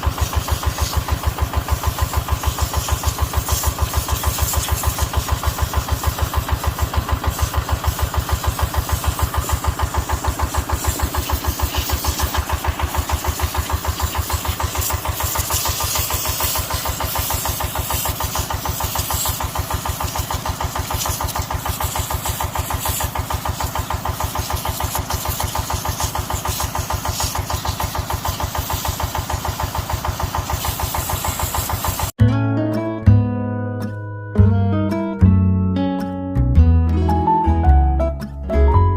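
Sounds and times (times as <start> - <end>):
diesel engine idling: 0.0 - 32.1.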